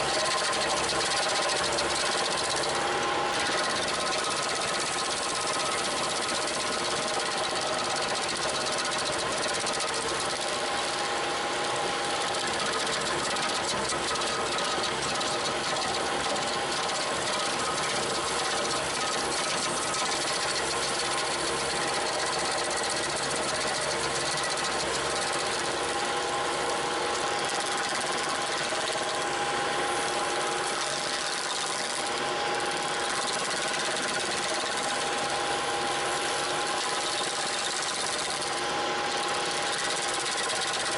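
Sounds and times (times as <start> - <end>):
diesel engine at high revs: 0.0 - 40.9
stump grinder grinding: 0.0 - 40.9.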